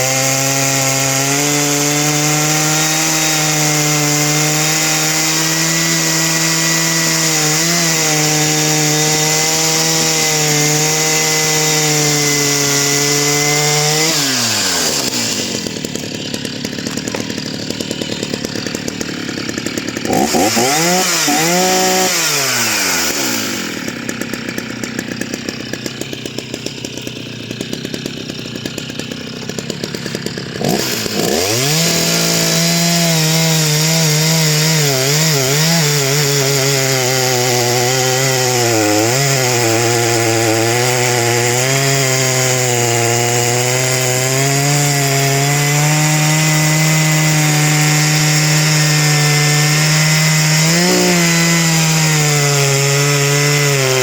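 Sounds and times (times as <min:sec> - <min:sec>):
chainsaw engine idling and revving: 0:00.0 - 0:54.0.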